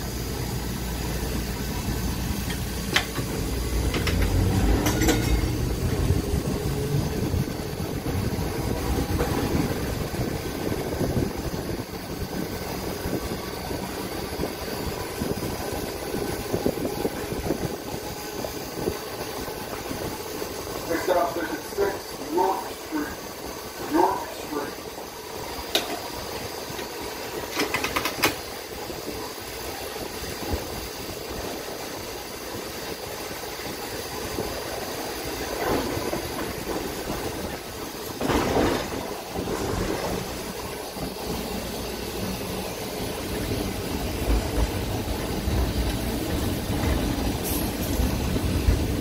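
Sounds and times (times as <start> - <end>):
streetcar wheels rumbling: 0.0 - 49.0.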